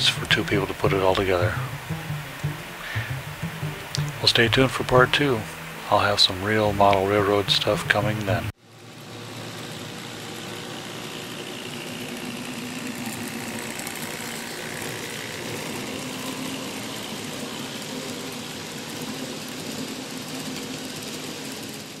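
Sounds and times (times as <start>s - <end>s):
model train motor whirring: 0.0s - 22.0s
wheels rolling on track: 0.0s - 22.0s.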